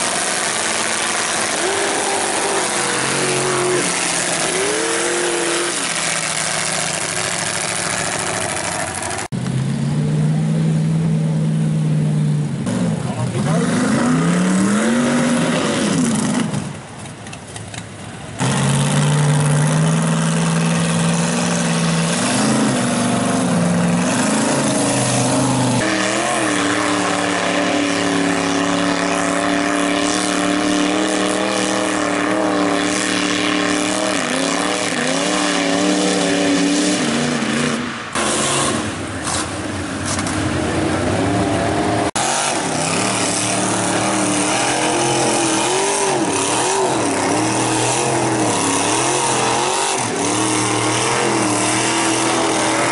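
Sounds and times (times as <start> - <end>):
tires spinning through mud: 0.0 - 9.4, 12.6 - 17.0, 18.0 - 52.9
truck engines revving: 0.0 - 52.9.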